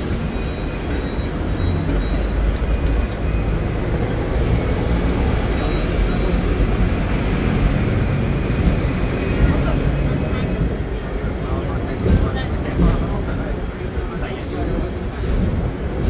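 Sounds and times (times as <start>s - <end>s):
tram rumbling: 0.0s - 16.0s.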